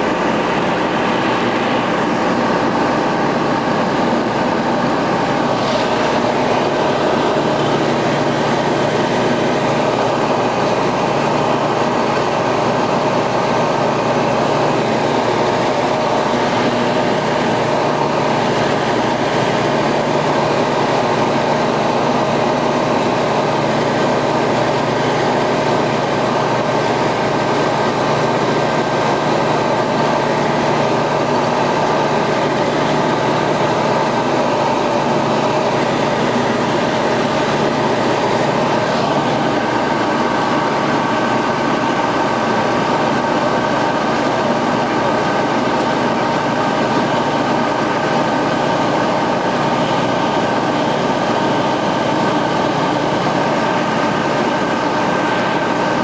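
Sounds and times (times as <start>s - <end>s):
aircraft engine and propeller: 0.0s - 56.0s
airflow rushing: 0.0s - 56.0s.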